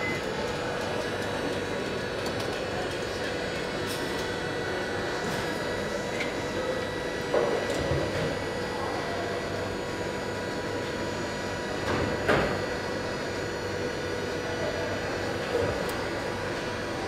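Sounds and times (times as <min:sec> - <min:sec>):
factory machinery hum: 0:00.0 - 0:17.0.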